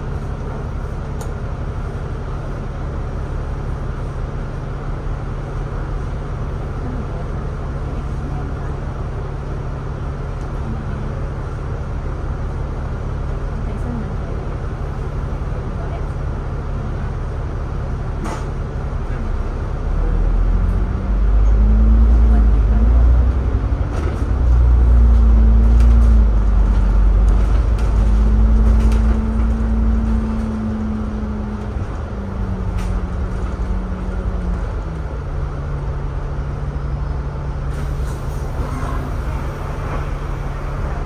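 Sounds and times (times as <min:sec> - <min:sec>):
bus engine rumble: 0:00.0 - 0:41.0.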